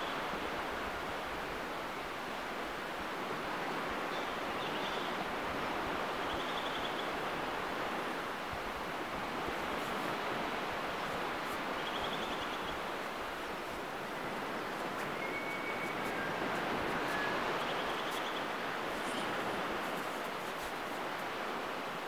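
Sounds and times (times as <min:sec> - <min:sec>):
surf washing on beach: 0:00.0 - 0:22.0.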